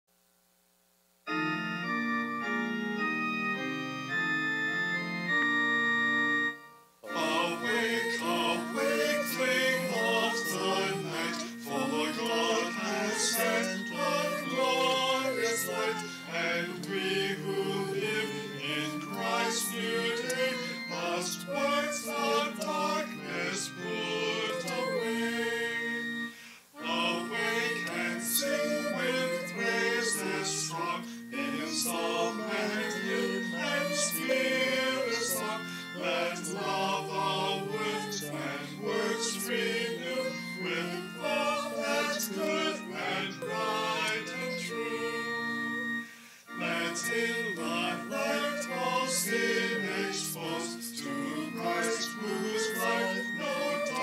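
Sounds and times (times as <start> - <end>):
organ chords: 1.3 - 54.0
voices singing a hymn: 7.0 - 54.0.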